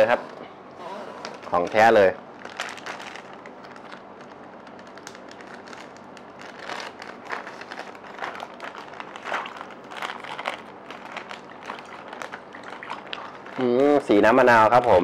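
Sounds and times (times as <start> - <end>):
plastic bag crinkling: 1.3 - 15.0.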